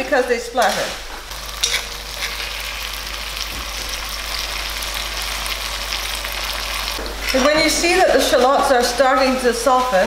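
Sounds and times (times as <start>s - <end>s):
frying hiss in hot oil: 0.0s - 10.0s.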